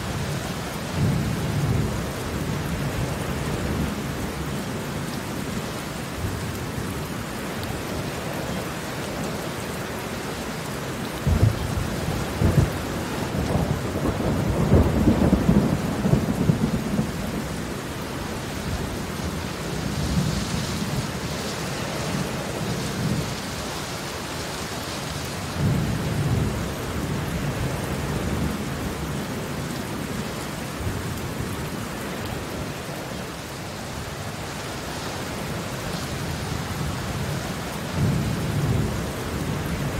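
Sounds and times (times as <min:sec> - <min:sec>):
rain on concrete pavement: 0:00.0 - 0:39.9.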